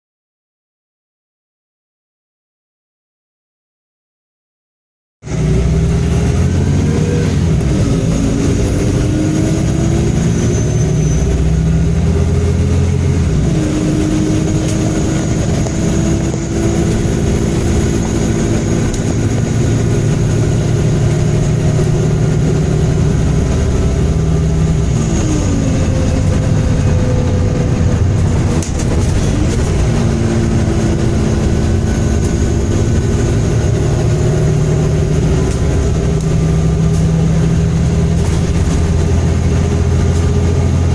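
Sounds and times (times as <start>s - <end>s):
bus diesel engine changing gear: 5.3s - 40.9s.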